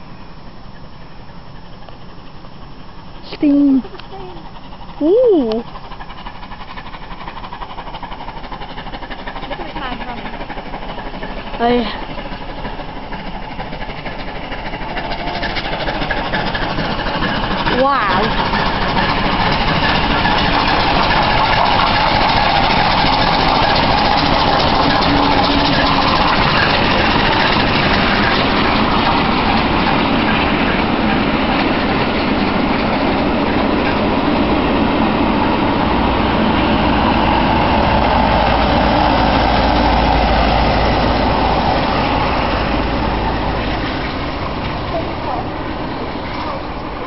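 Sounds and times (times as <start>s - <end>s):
train coaches rumbling on rails: 0.0s - 47.0s.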